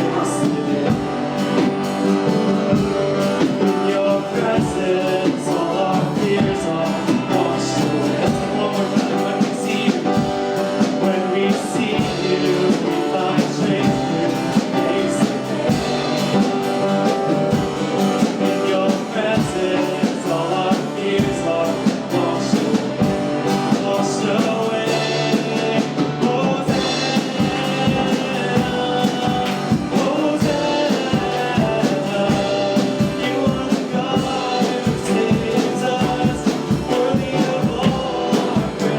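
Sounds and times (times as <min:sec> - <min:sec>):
people singing: 0:00.0 - 0:38.9
steady drum beat: 0:00.0 - 0:38.9
worship band playing: 0:00.0 - 0:38.9.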